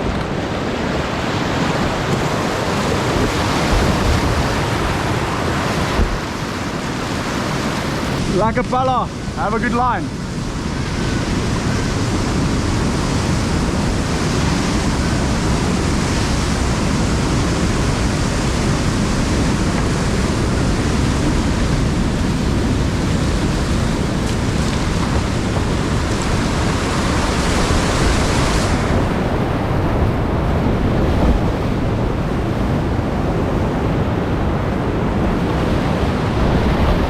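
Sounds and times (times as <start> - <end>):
whitewater rushing: 0.0 - 37.0.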